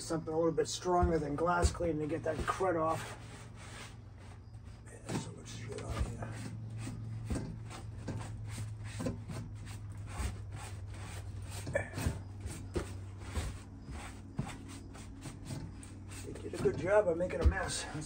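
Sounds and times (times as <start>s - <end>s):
steady low hum: 0.0s - 18.0s
hand scrubbing a surface: 0.9s - 18.0s.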